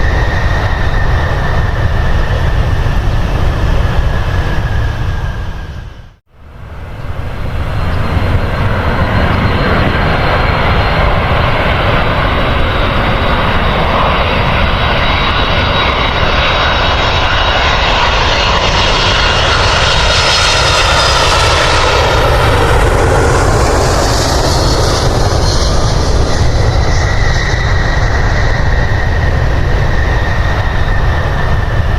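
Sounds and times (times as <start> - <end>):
airliner engines running: 0.0 - 31.9.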